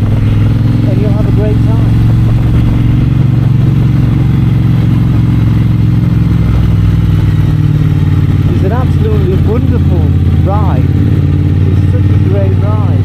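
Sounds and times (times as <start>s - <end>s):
motorcycle engine and exhaust running: 0.0s - 13.0s.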